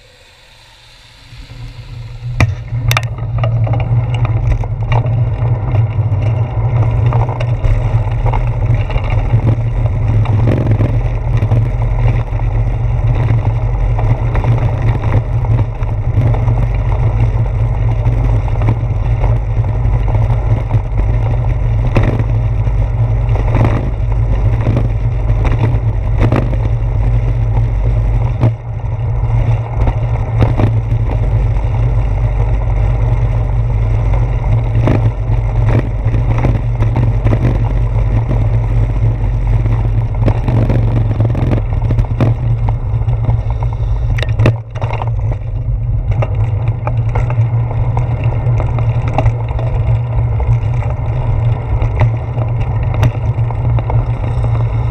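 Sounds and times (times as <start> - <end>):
bicycle road vibration: 0.0 - 54.9
low wind rumble: 0.0 - 54.9
wheels knocking over bricks: 2.3 - 54.9.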